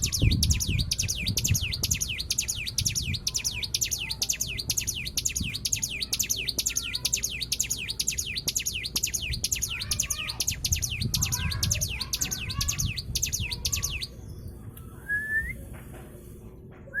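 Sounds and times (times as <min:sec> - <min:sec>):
bird high chirps: 0:00.0 - 0:14.6.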